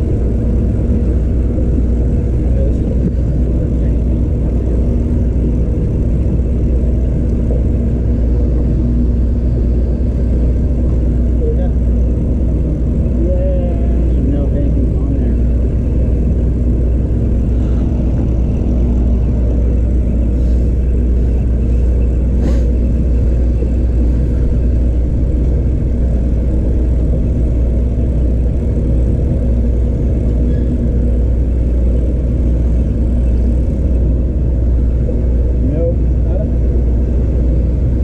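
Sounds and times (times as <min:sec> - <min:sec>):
boat motor humming: 0:00.0 - 0:38.0.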